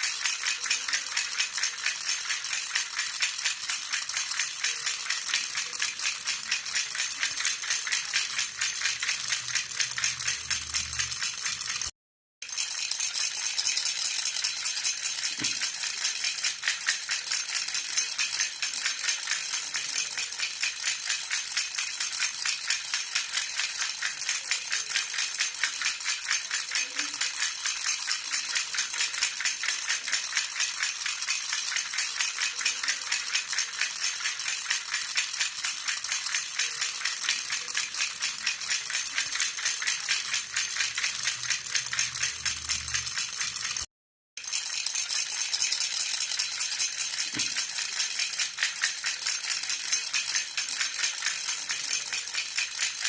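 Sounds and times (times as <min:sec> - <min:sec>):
baby rattle shaken: 0:00.0 - 0:53.0.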